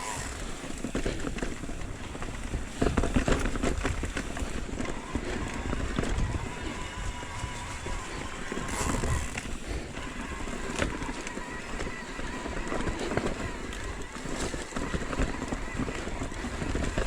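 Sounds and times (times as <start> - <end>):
electric motor whine: 0.0 - 1.2, 1.9 - 17.0
bike knocks and rattles: 0.0 - 17.0
tyres crunching over dirt and rock: 0.0 - 17.0.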